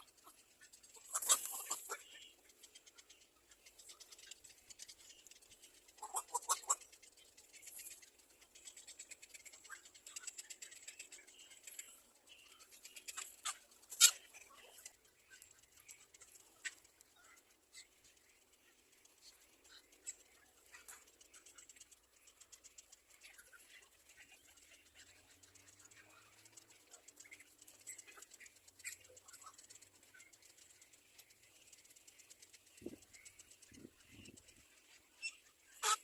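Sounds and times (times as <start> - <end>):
small birds chirping: 0.0 - 36.0
small clicks and scratches: 0.0 - 36.0.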